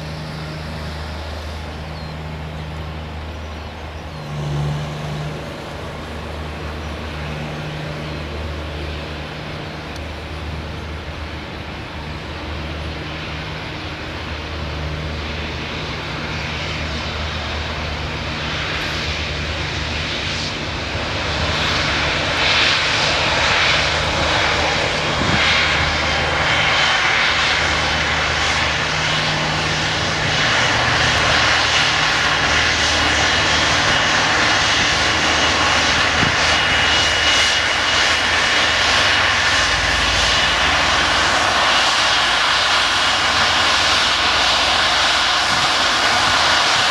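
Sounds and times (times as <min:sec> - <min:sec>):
jet engines rumbling with whine: 0:00.0 - 0:46.9.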